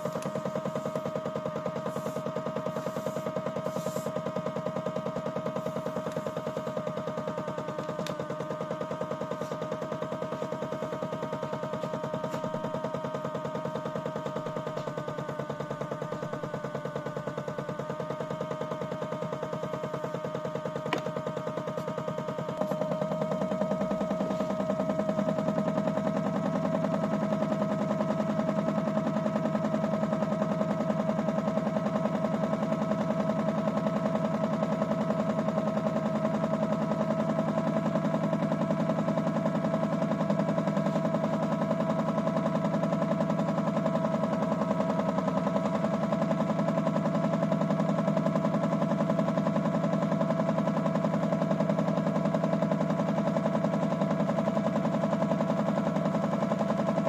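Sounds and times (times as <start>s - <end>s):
toy washing machine motor whine: 0.0s - 57.0s.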